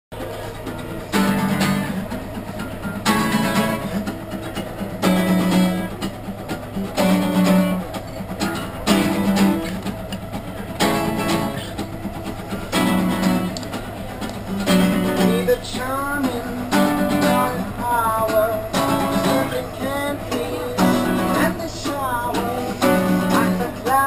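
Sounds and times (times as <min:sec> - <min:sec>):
acoustic guitars strummed: 0:00.2 - 0:24.0.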